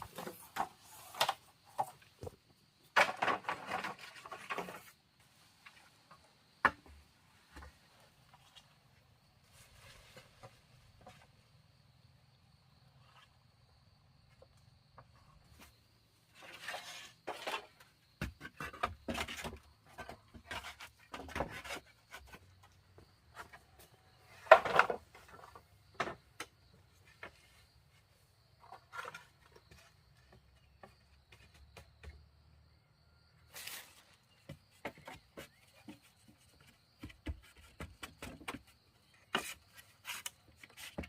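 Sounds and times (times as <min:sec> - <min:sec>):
rustling of building materials: 0:00.0 - 0:11.8, 0:12.9 - 0:32.3, 0:33.4 - 0:41.0
faint high insect drone: 0:00.0 - 0:41.0.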